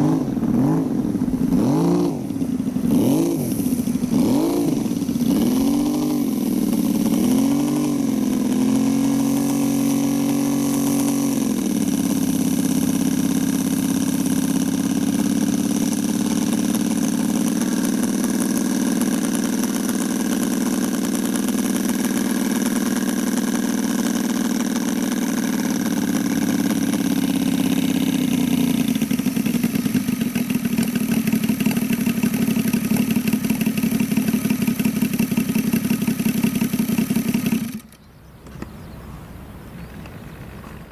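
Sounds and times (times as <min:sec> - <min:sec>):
model airplane engine running: 0:00.0 - 0:40.9.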